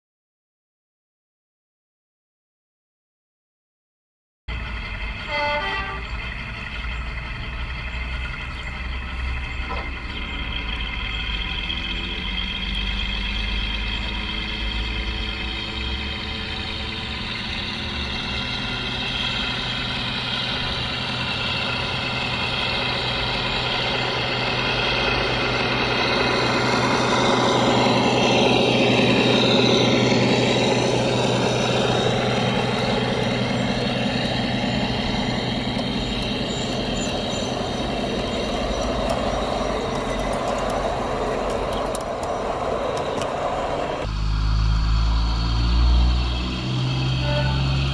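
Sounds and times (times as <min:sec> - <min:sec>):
model locomotive diesel engine: 0:04.5 - 0:47.9
wheels on rails: 0:04.5 - 0:47.9.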